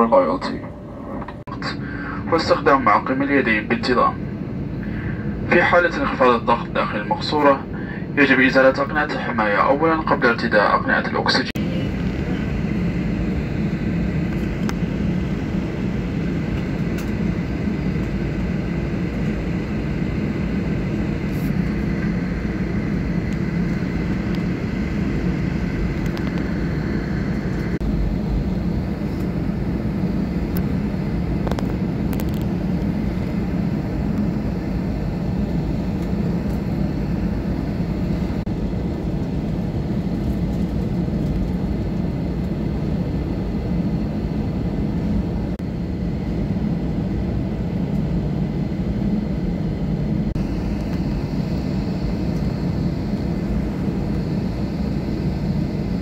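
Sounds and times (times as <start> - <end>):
faint high whine: 0.0 - 56.0
jet engine rumble: 0.0 - 56.0.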